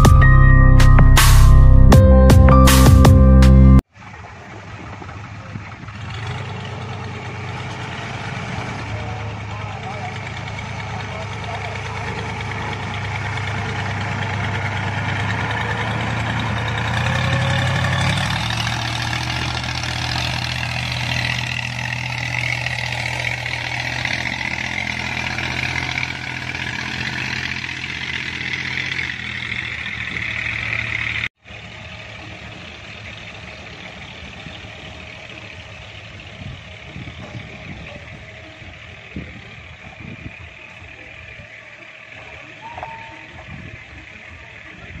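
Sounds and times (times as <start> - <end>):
boat engine running: 0.0 - 45.0.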